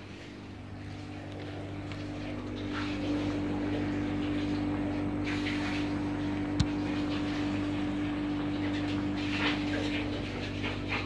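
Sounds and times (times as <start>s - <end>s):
air conditioner compressor hum: 0.0s - 11.0s.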